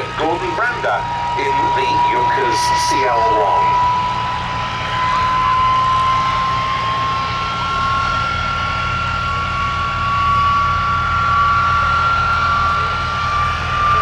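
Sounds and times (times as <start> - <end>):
aircraft engine drone: 0.0 - 14.0
high whine: 0.0 - 14.0.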